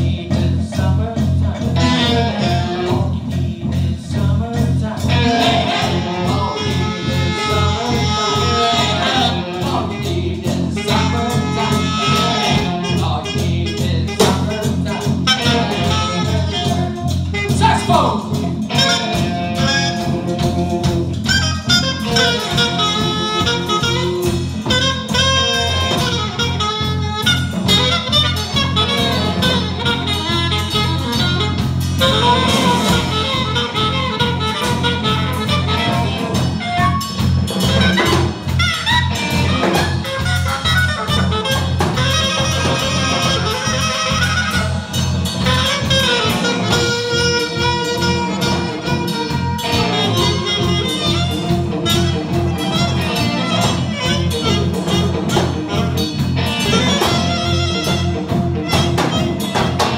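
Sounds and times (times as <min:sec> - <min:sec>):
drum kit: 0:00.0 - 0:59.9
electric bass: 0:00.0 - 0:59.9
electric guitar: 0:00.0 - 0:59.9
saxophone: 0:01.5 - 0:03.8, 0:04.4 - 0:59.9.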